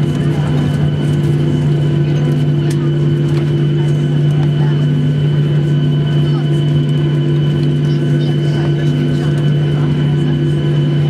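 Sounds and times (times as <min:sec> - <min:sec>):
jet engines cabin hum: 0:00.0 - 0:11.0.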